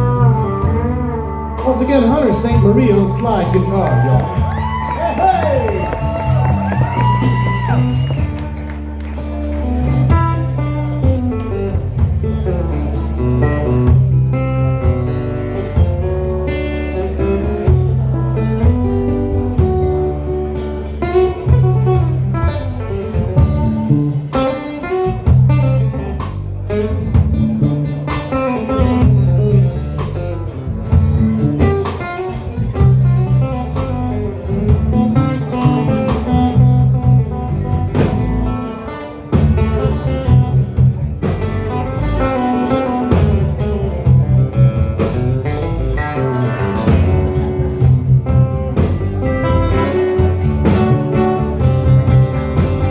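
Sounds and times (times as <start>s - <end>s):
bass guitar: 0.0s - 52.9s
lead guitar: 0.0s - 52.9s
drum kit: 3.4s - 52.9s.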